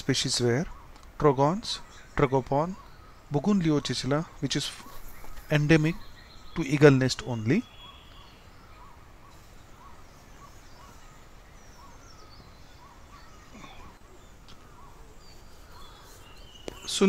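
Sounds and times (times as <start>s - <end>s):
distant bird notes: 0.0s - 17.0s.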